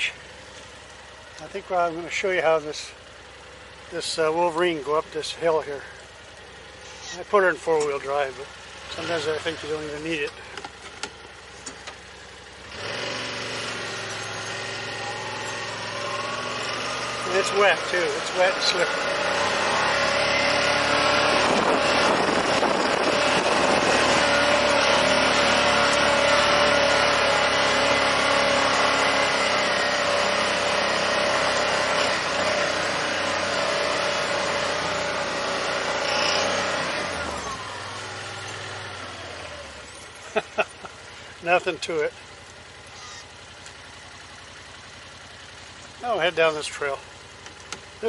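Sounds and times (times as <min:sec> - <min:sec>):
vehicle engine pulling uphill: 0:00.0 - 0:48.0.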